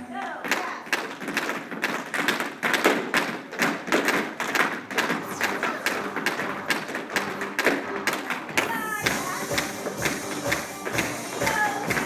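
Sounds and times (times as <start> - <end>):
tap shoes on wooden floor: 0.2 - 12.0.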